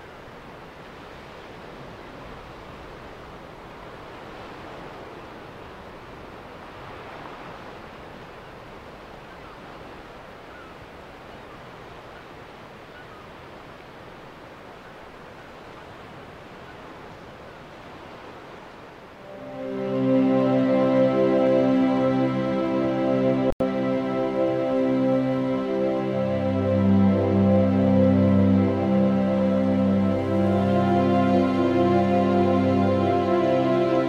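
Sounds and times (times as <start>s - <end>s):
ocean surf on rocks: 0.0s - 34.0s.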